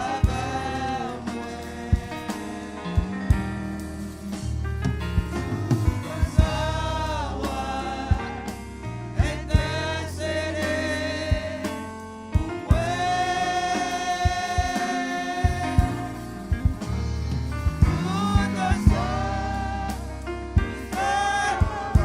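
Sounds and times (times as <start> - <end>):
person singing with vibrato: 0.0 - 4.6, 6.0 - 22.0
bass and drums: 0.0 - 22.0.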